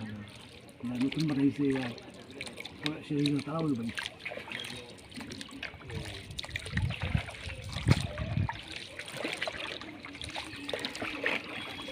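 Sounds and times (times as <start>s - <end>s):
water splashing against boat: 0.0s - 11.9s.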